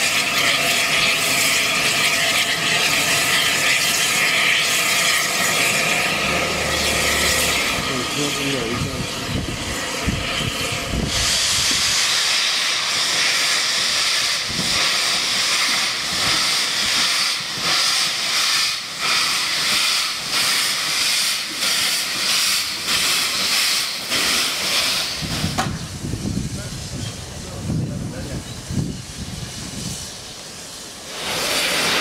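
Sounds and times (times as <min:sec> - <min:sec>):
steam locomotive hissing steam: 0:00.0 - 0:32.0.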